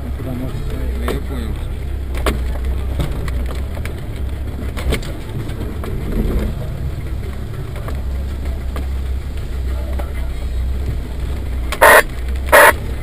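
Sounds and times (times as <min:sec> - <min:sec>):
engine and road drone: 0:00.0 - 0:13.0.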